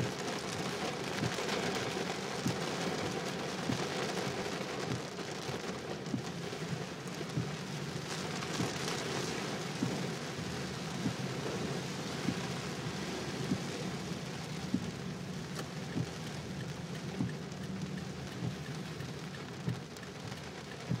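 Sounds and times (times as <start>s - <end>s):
heavy rain on car roof: 0.0s - 21.0s.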